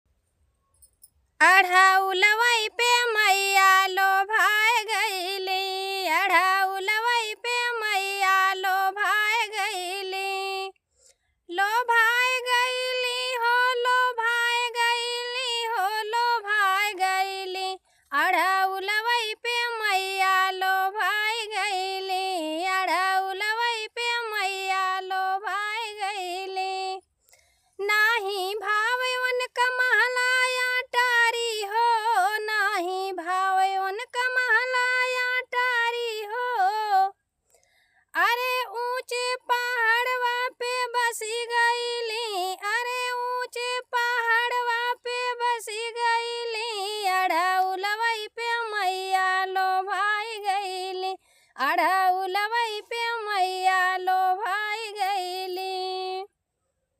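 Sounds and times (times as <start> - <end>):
woman singing unaccompanied: 1.4 - 10.8, 11.5 - 27.0, 27.8 - 37.2, 38.1 - 56.3.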